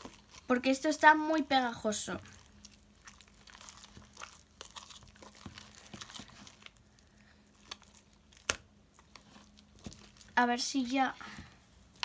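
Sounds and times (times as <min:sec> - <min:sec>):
sticky slime crackling: 0:00.0 - 0:11.1.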